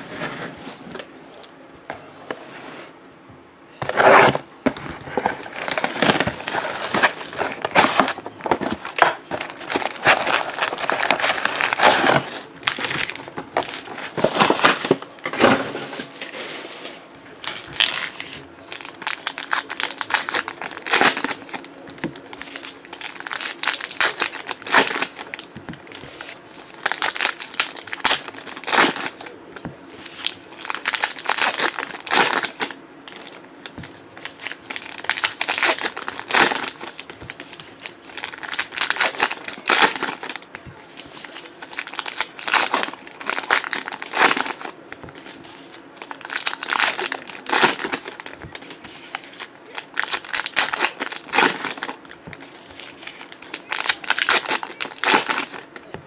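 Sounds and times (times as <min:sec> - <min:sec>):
card pack wrappers crinkling and tearing: 0:03.8 - 0:15.6, 0:17.4 - 0:55.9.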